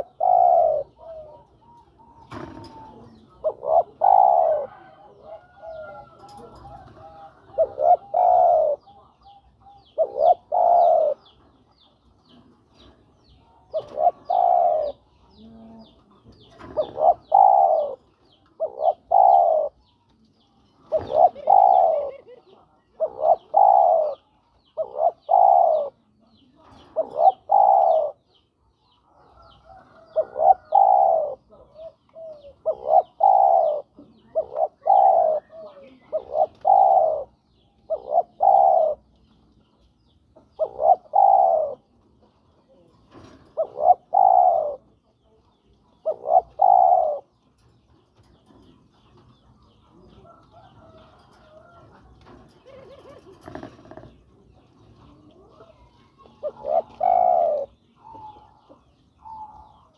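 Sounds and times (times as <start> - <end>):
dove cooing: 0.0 - 11.6, 12.3 - 59.9.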